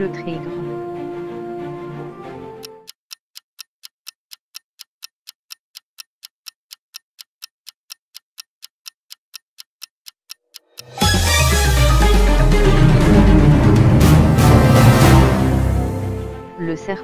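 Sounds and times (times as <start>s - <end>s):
countdown clock ticking: 0.0s - 0.9s, 1.7s - 16.7s.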